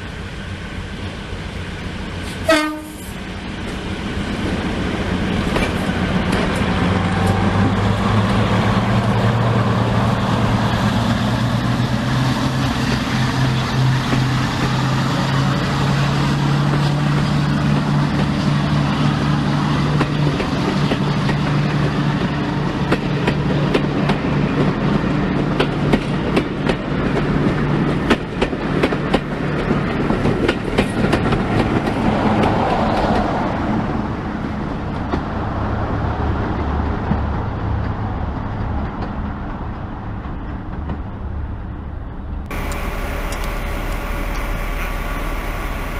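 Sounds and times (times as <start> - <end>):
diesel locomotive engine: 0.0 - 45.9.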